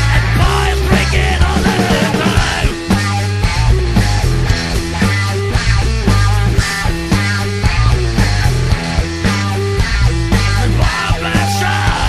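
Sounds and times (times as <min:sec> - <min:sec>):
drum hits: 0:00.0 - 0:12.0
electric guitar: 0:00.0 - 0:12.0
held bass guitar notes: 0:00.0 - 0:12.0.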